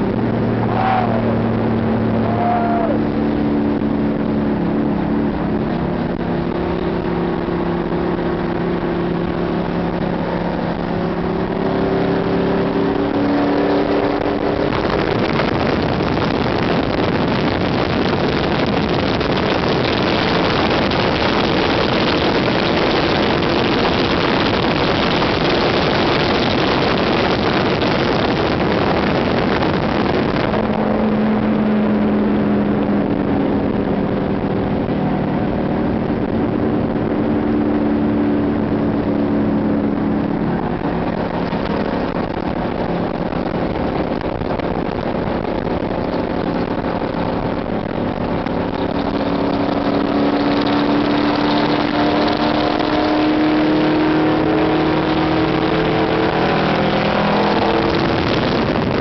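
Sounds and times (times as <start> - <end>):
engine drone: 0.0 - 59.0
wind and road noise: 0.0 - 59.0.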